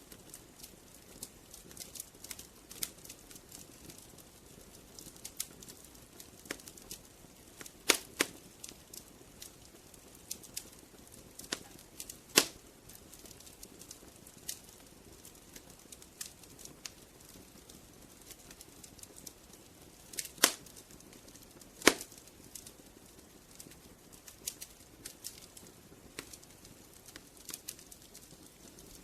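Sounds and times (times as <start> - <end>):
faint hiss of flames: 0.0 - 29.0
firewood crackling and popping: 0.0 - 29.0.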